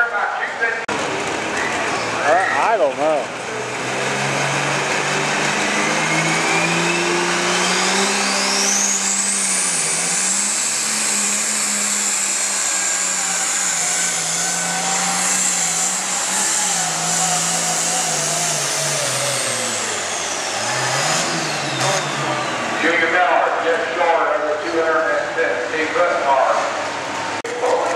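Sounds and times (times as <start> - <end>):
high turbo whine: 0.0 - 27.4
diesel tractor engine at full throttle: 0.0 - 27.9.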